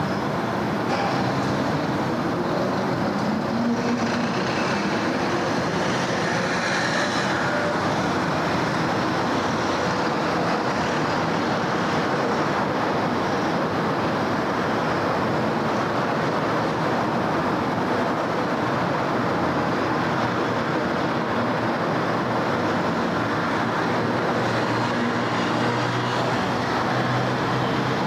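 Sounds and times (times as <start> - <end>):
faint engine hums and whines: 0.0 - 28.0
road traffic passing: 0.0 - 28.0.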